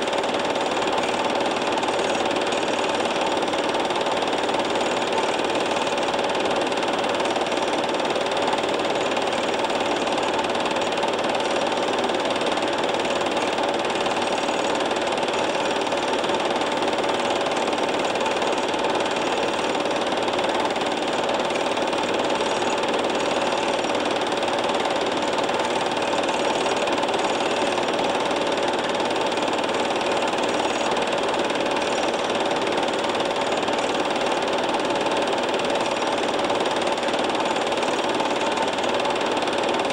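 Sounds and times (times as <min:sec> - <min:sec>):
fast mechanical clatter: 0:00.0 - 0:39.9
machine humming: 0:00.0 - 0:39.9.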